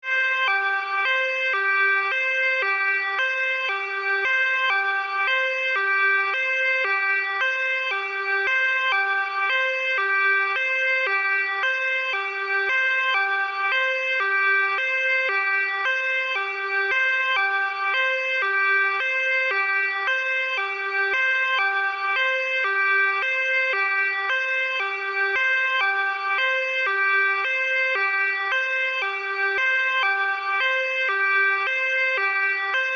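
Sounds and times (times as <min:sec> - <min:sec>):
two-tone emergency siren: 0:00.0 - 0:32.9.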